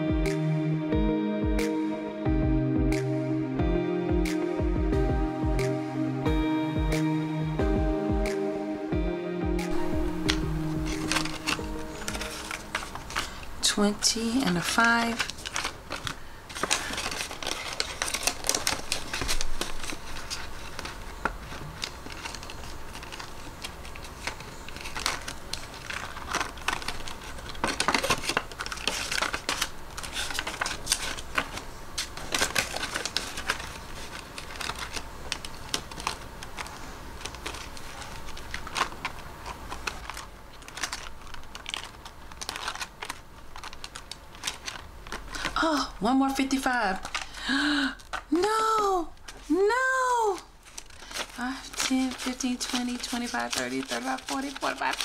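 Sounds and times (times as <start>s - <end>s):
banknotes rustling and crinkling: 9.7s - 55.0s.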